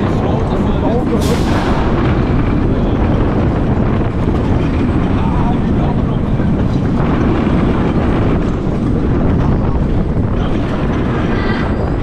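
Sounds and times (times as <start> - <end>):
roller coaster wheels rumbling: 0.0 - 12.0
wind buffeting microphone: 0.0 - 12.0.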